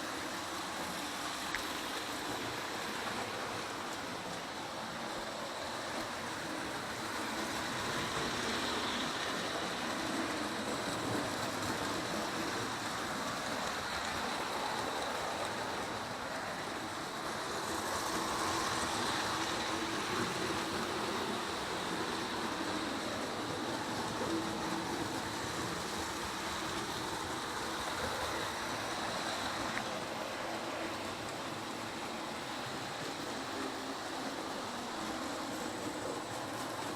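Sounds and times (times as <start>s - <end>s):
model trains rumbling on rails: 0.0s - 36.9s.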